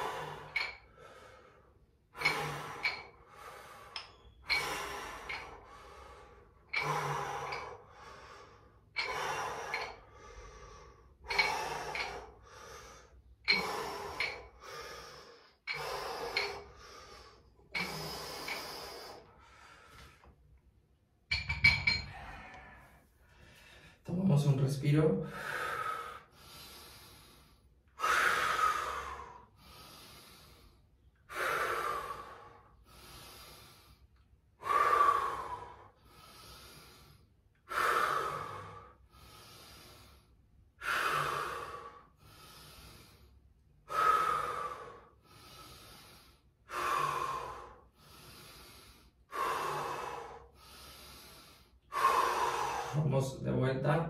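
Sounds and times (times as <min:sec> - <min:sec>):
person breathing deeply: 0:00.0 - 0:20.6, 0:21.3 - 0:24.2, 0:25.2 - 0:53.4.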